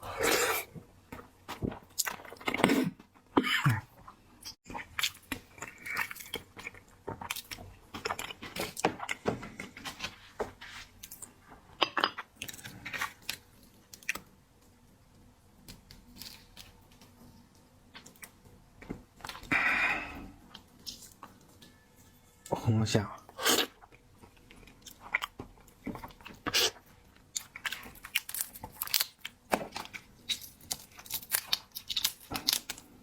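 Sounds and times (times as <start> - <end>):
close-miked chewing and crunching: 0.2 - 10.2, 10.9 - 14.8, 15.5 - 19.6, 20.2 - 21.6, 23.2 - 33.0.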